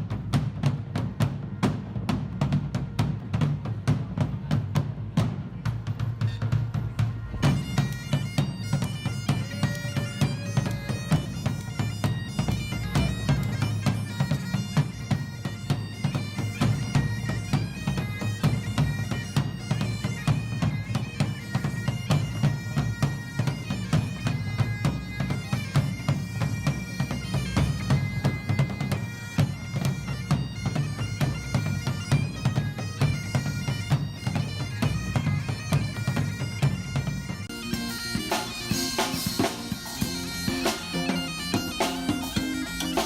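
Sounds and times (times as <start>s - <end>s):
bagpipes playing a quick tune: 6.0s - 43.0s.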